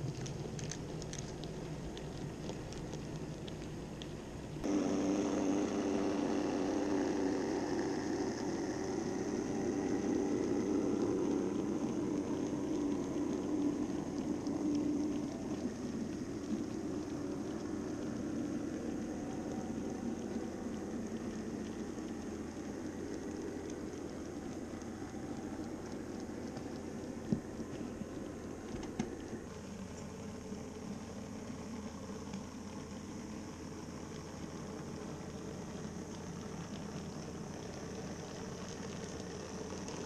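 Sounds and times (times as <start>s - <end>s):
electric motor hum: 0.0s - 40.0s.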